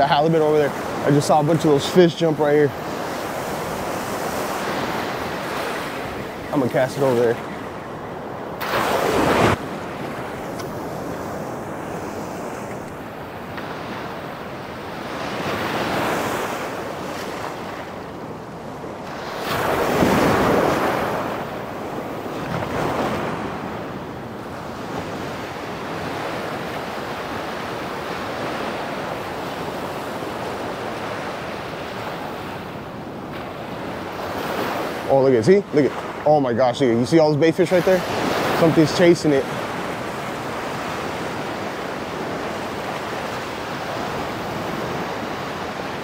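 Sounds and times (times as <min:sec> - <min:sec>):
small surf washing on sand: 0:00.0 - 0:07.8, 0:08.5 - 0:46.0.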